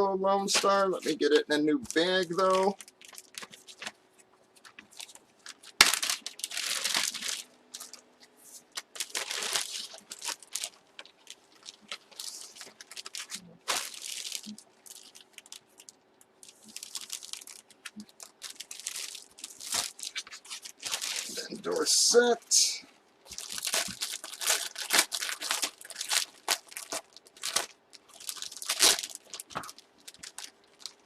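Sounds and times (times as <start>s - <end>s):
plastic bag crinkling: 0.4s - 22.2s, 23.2s - 31.0s.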